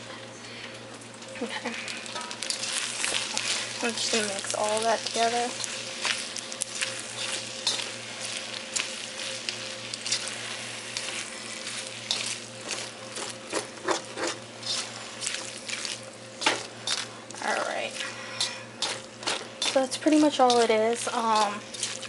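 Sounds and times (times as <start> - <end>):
food sizzling in a wok: 1.4 - 22.0
tongs clicking and scraping pan: 2.0 - 22.0.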